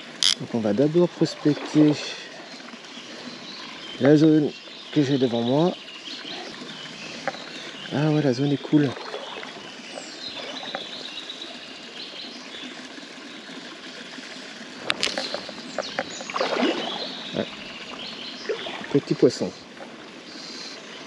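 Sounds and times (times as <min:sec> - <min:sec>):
river running over stones: 0:00.0 - 0:21.0.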